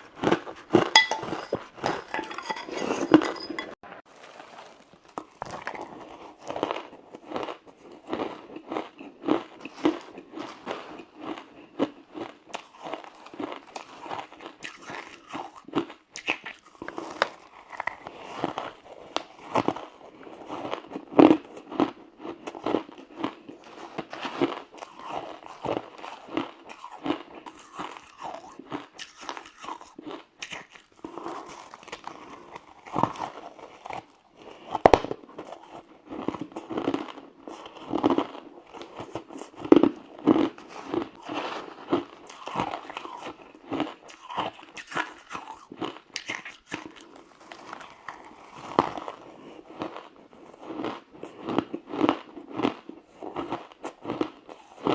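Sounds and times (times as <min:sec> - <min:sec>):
ice crunching while chewed: 0:00.0 - 0:54.9.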